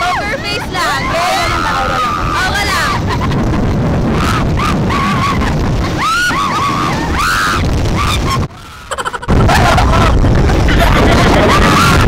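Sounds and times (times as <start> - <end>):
people crying out: 0.0 - 3.2, 4.1 - 12.0
roller coaster wind and ride noise: 0.0 - 12.0.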